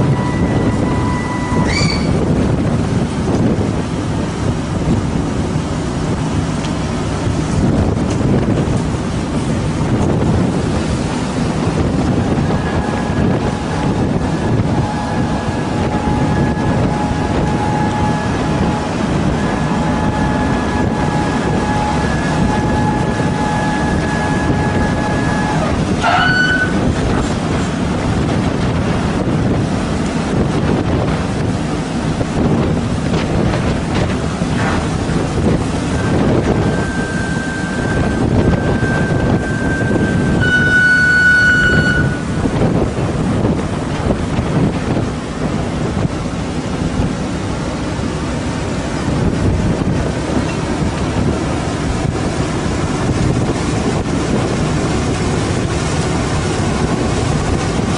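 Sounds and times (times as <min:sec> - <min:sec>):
sea noise: 0:00.0 - 0:57.9
steady mechanical whine: 0:00.0 - 0:57.9
wind: 0:00.0 - 0:57.9.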